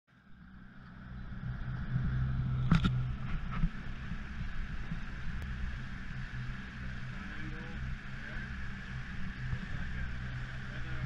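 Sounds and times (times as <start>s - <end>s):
boat engine humming: 0.1s - 11.0s.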